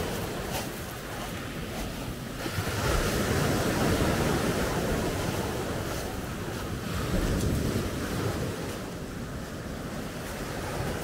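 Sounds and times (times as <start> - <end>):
waves washing up pebble beach: 0.0 - 11.0
wind buffeting microphone: 0.0 - 11.0.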